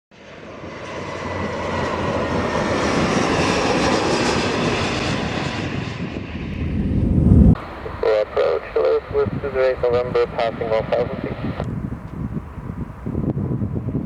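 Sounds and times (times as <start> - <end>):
jet airliner engines passing: 0.1 - 14.0
faint falling jet whine: 0.2 - 14.0
deep rumble: 2.6 - 14.0.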